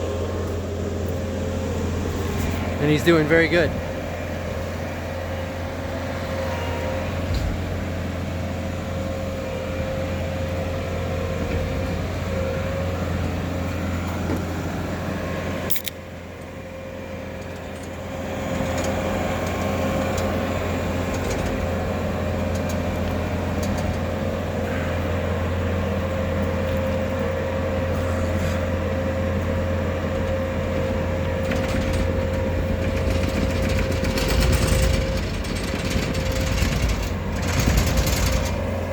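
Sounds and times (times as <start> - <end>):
diesel engine running: 0.0 - 38.9
high engine whine: 0.0 - 38.9.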